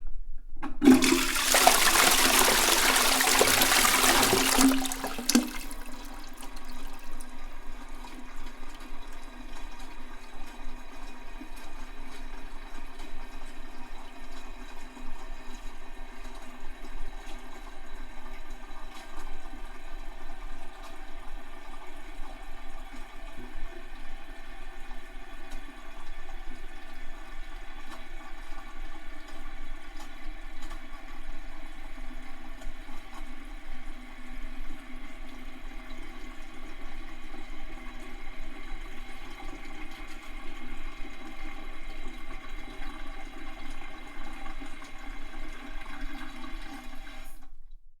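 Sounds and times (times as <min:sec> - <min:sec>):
toilet cistern refilling: 0:00.6 - 0:47.6.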